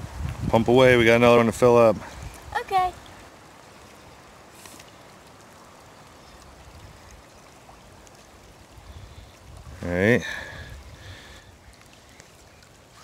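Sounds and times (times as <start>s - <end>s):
stream trickling: 0.0s - 13.0s.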